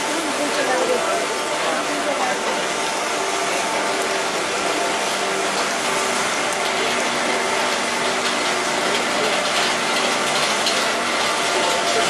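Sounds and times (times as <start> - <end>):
mechanical hum: 0.0 - 12.0
spraying water: 0.0 - 12.0.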